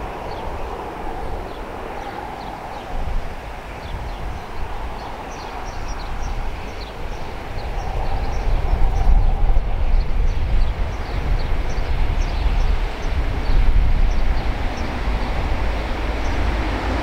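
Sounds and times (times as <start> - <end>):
small birds chirping: 0.0 - 17.0
train approaching rumble: 0.0 - 17.0.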